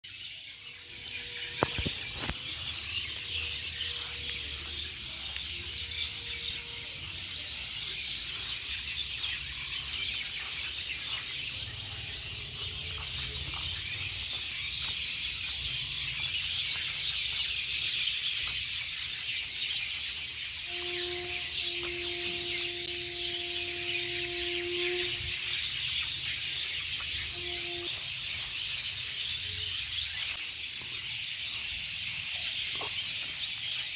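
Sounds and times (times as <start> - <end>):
birds chirping in chorus: 0.1 - 33.9.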